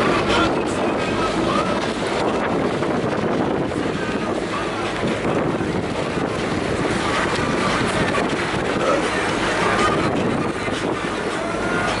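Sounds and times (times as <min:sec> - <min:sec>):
boat moving over choppy water: 0:00.0 - 0:12.0
wind buffeting microphone: 0:00.0 - 0:12.0.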